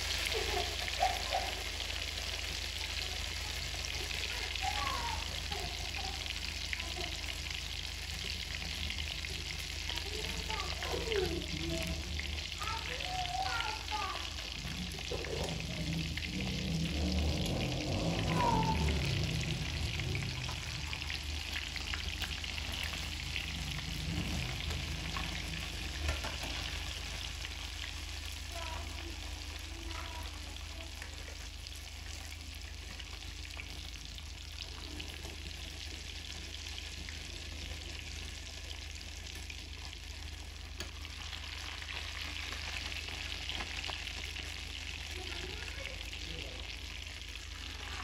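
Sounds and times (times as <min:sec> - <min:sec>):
oil sizzling and bubbling: 0:00.0 - 0:48.0.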